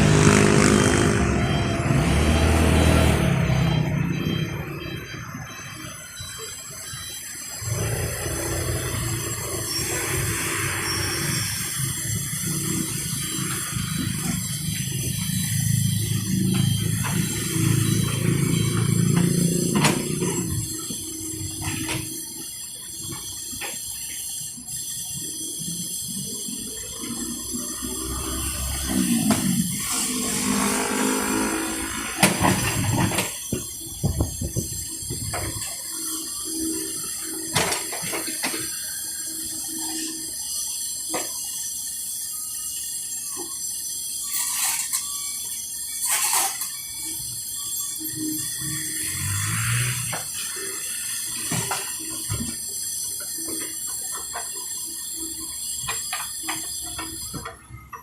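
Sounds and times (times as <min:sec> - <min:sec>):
excavator running: 0:00.0 - 0:58.0.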